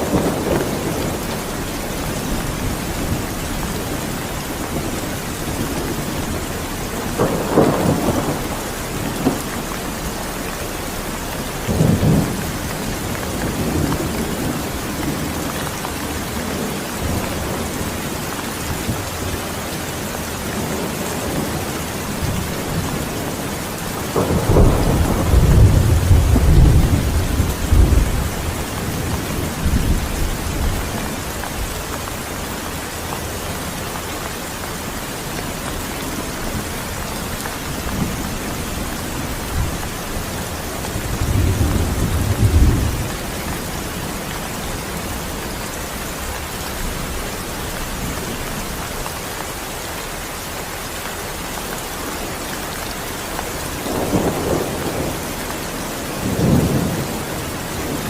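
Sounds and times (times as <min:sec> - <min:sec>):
thunder rumbling: 0:00.0 - 0:49.0, 0:53.3 - 0:58.0
heavy rain: 0:00.0 - 0:58.0.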